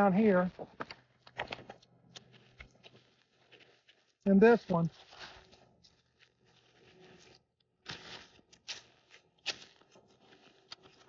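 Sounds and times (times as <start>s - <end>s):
quiet footsteps: 0.6s - 11.0s.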